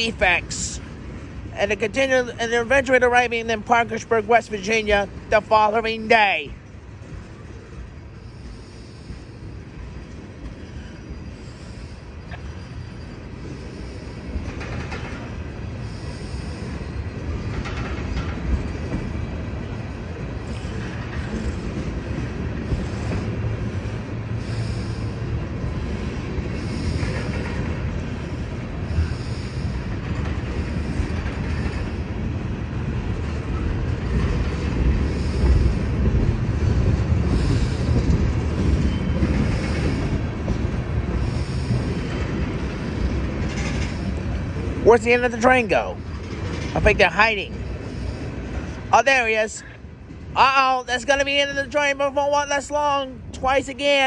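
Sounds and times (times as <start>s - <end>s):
train wheels rumbling on rail: 0.0s - 54.0s
high wheel squeals: 4.6s - 32.4s, 33.1s - 49.7s.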